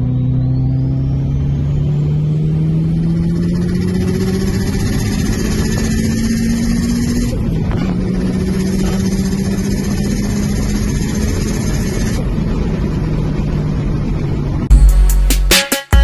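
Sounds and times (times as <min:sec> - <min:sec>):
turbo car engine accelerating: 0:00.0 - 0:14.7.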